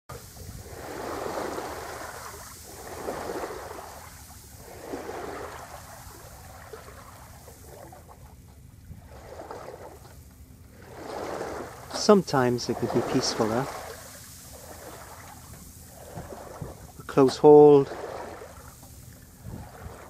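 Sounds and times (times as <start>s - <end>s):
water splashing along a boat hull: 0.0s - 20.0s.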